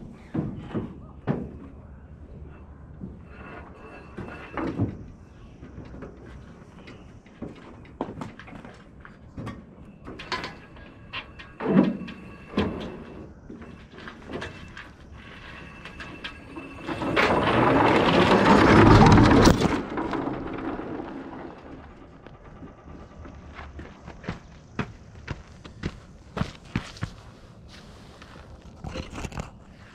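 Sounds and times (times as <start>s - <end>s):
tractor rolling down metal ramps: 0.0s - 27.2s
knocks and creaks: 0.0s - 29.9s.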